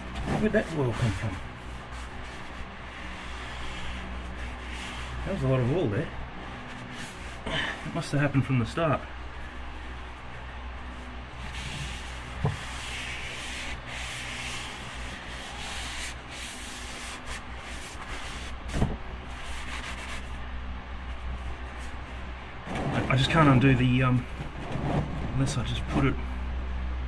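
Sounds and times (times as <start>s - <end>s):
rubbing and scuffing handling noises: 0.0s - 8.1s, 9.1s - 23.5s.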